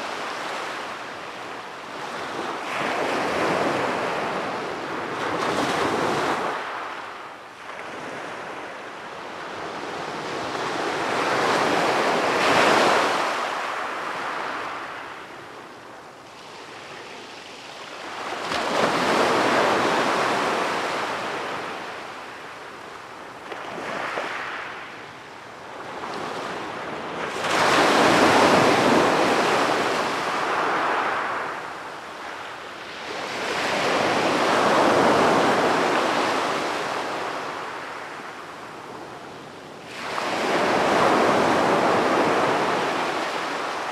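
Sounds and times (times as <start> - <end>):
sea waves breaking on beach: 0.0 - 8.8, 9.4 - 15.3, 16.3 - 22.5, 25.9 - 39.2, 39.8 - 43.9.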